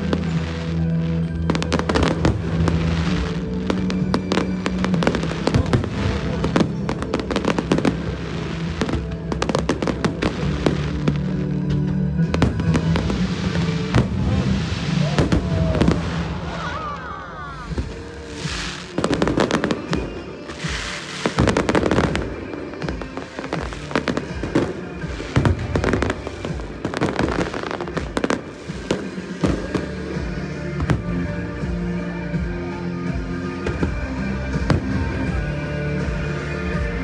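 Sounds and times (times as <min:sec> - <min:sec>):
fireworks bursting and crackling: 0:00.0 - 0:36.9
music playing: 0:00.0 - 0:37.0.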